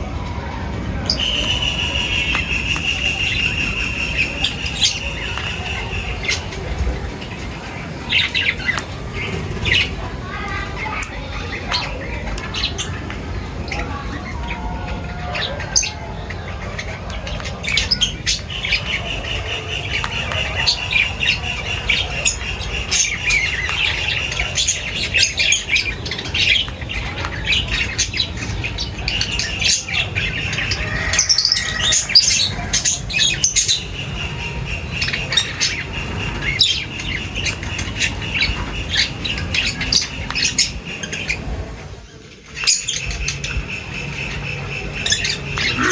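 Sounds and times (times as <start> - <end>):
birds chirping and squawking: 0.0 - 45.9.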